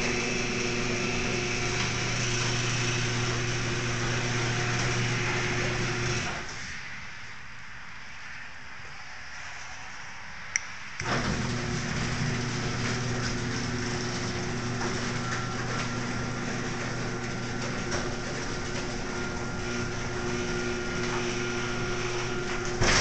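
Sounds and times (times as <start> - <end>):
garage door opener humming: 0.0 - 6.6, 11.0 - 23.0.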